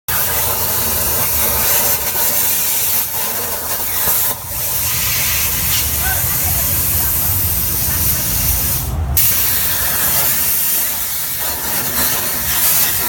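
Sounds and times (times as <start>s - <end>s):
plasma cutter hissing: 0.1s - 13.0s.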